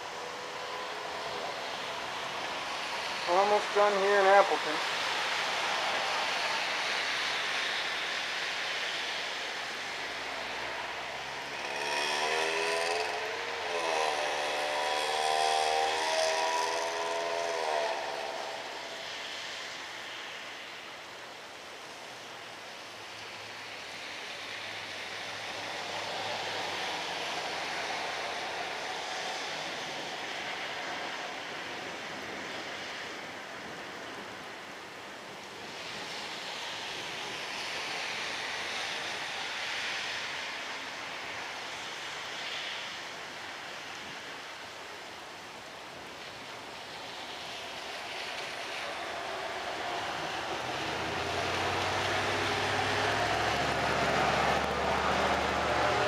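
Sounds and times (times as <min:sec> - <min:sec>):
rain hiss: 0:00.0 - 0:56.0
tyres on wet streets: 0:00.0 - 0:56.0.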